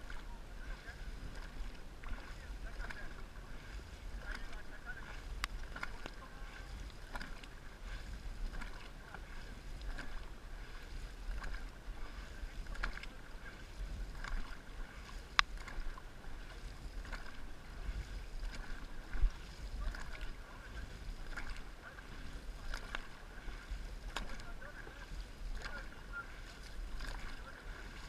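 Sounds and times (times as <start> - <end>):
paddles splashing through water: 0.0 - 28.0
wind rumble on microphone: 0.0 - 28.0.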